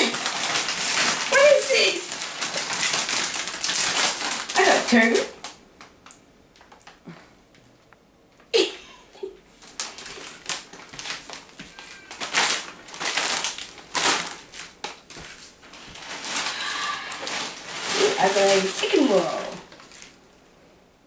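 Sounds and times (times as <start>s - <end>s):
plastic bags crinkling: 0.0s - 7.0s, 9.5s - 20.4s.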